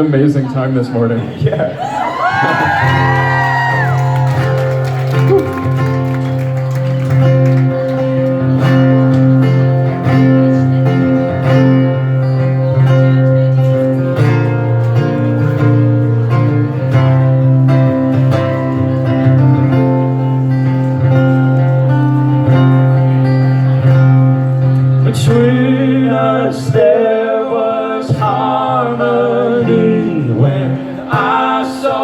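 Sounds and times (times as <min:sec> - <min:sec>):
acoustic guitar strumming: 0:02.6 - 0:32.0.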